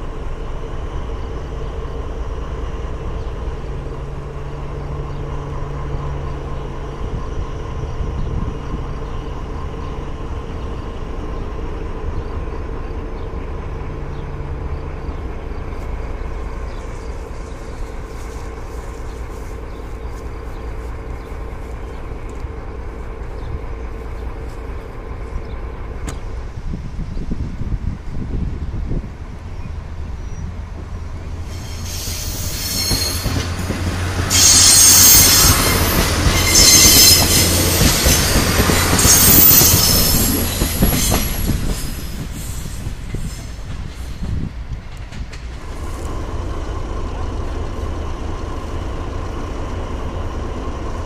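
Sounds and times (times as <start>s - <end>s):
diesel locomotive engine drone: 0.0s - 51.0s.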